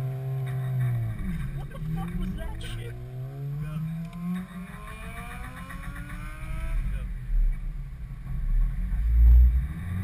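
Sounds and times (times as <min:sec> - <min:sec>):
car engine accelerating: 0:00.0 - 0:10.0
low rumble: 0:00.0 - 0:10.0.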